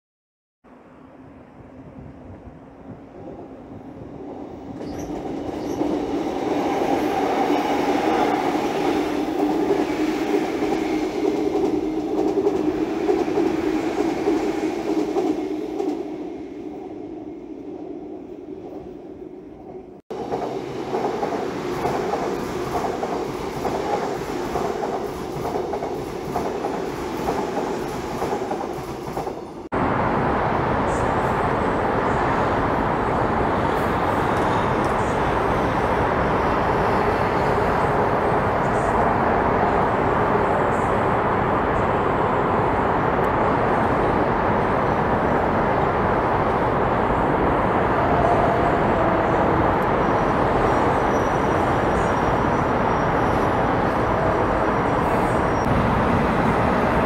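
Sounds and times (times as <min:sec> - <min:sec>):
electric train rumbling: 0:00.7 - 0:57.0.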